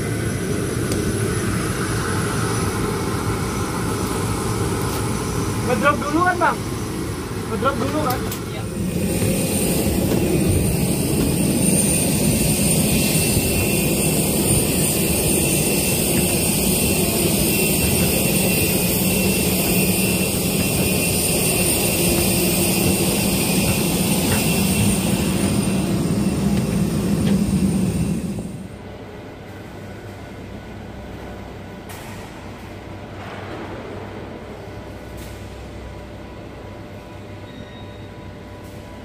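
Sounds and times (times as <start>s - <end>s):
jet airliner rumble and whine: 0.0s - 39.0s.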